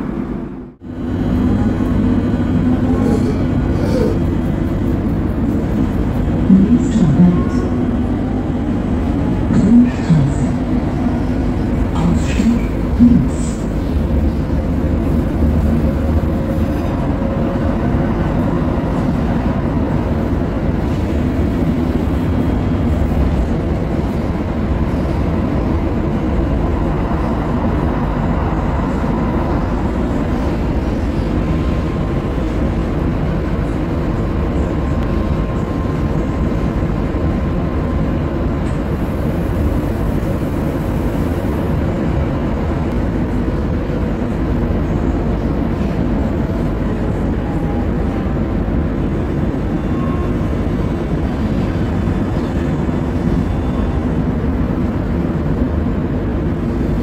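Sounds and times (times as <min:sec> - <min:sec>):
wheels rumbling on rails: 0:00.0 - 0:57.0.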